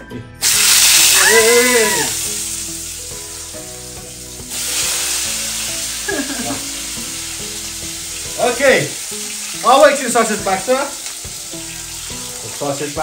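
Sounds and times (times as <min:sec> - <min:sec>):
sausages sizzling in hot oil: 0:00.4 - 0:13.0.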